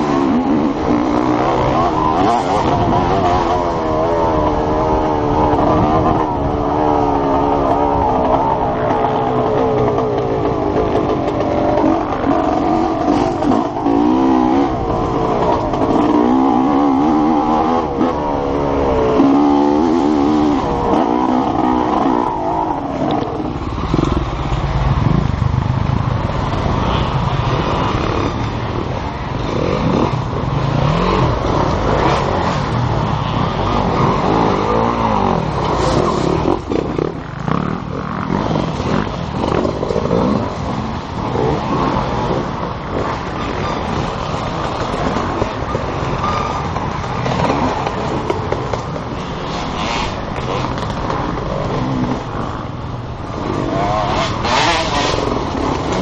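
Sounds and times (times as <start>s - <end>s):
two-stroke motorcycle revving: 0.0s - 56.0s.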